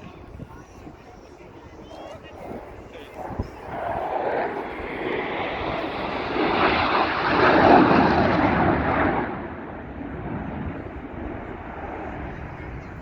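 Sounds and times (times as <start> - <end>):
airplane passing overhead: 0.0 - 13.0.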